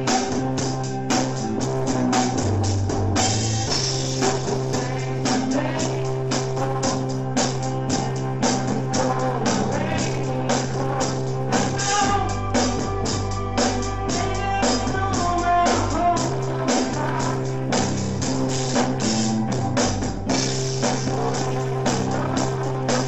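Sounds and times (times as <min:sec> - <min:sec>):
drum kit beat: 0:00.0 - 0:23.0
low bass notes: 0:00.0 - 0:23.0.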